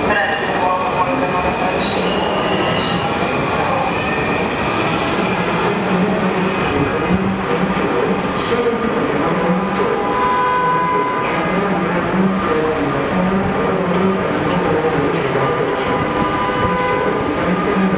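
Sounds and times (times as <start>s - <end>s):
train wheels on rail: 0.0s - 10.0s, 11.2s - 17.9s.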